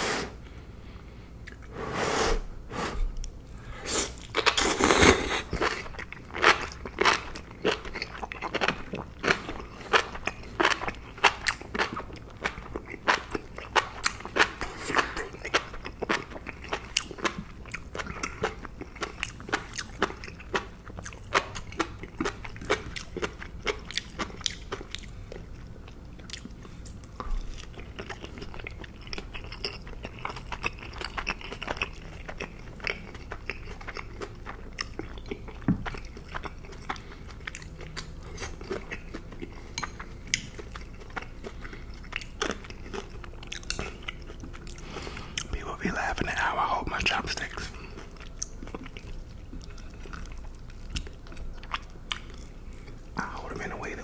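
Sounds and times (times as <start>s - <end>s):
person chewing and crunching food: 0.4s - 1.8s, 2.8s - 54.0s.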